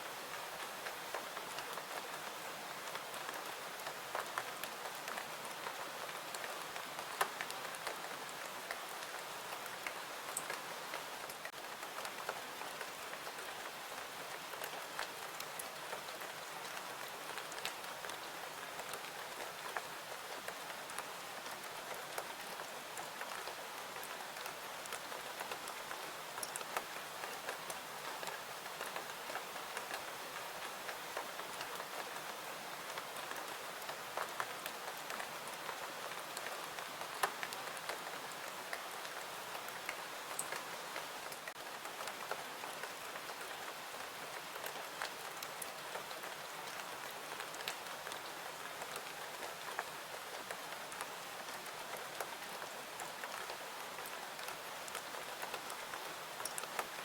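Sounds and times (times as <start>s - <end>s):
steady rain falling: 0.0s - 57.0s
sharp ticks and drips: 0.8s - 57.0s.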